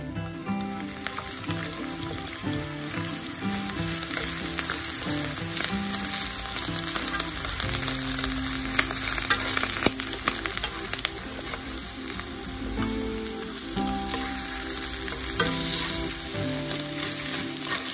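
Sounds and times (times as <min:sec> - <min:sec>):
food sizzling in a frying pan: 0:00.0 - 0:17.9.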